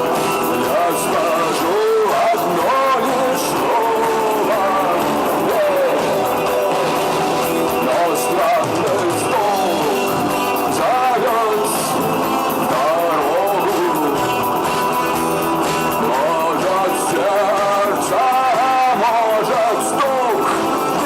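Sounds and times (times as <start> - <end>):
rock music with singing: 0.0 - 21.0.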